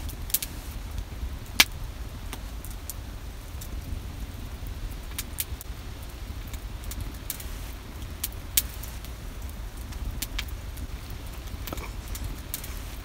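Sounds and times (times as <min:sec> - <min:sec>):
low steady rumble: 0:00.0 - 0:13.0
wood fire crackling and popping: 0:00.0 - 0:13.0.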